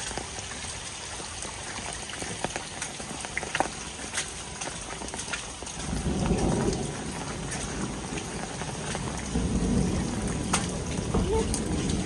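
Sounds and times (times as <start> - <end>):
close drips ticking: 0.0 - 12.0
heavy rain on roofs and paving: 0.0 - 12.0.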